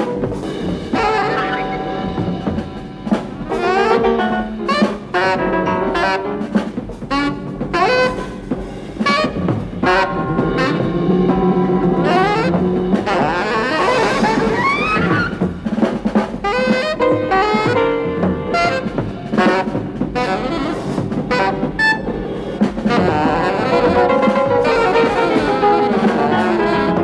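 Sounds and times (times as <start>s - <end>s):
drums: 0.0s - 27.0s
jazz brass and saxophone: 0.0s - 27.0s.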